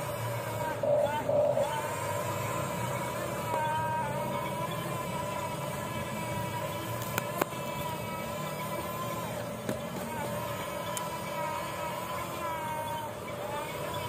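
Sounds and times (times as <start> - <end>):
toy electric motors whining: 0.0 - 14.0.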